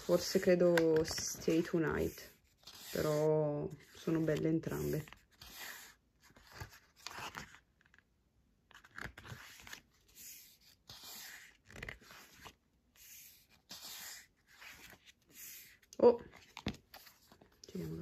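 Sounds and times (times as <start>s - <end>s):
pages turning and rustling: 0.0s - 18.0s.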